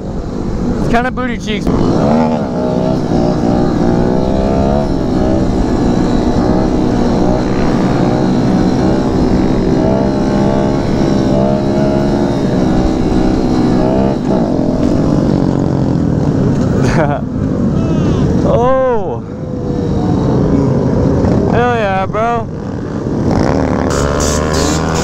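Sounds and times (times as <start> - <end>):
motorcycle engine revving: 0.0 - 18.5, 19.4 - 25.0
wind rushing over microphone: 0.0 - 24.0.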